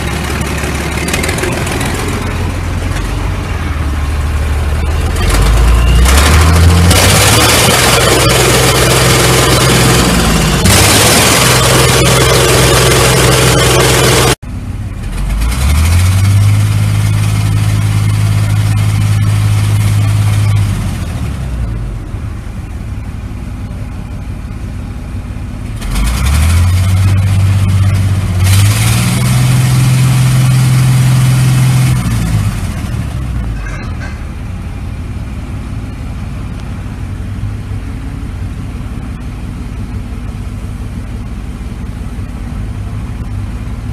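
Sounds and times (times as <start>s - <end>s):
diesel engine revving: 0.0s - 43.9s.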